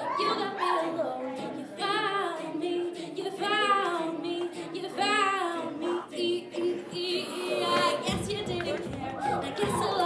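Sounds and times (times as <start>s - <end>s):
woman singing lead: 0.0s - 10.0s.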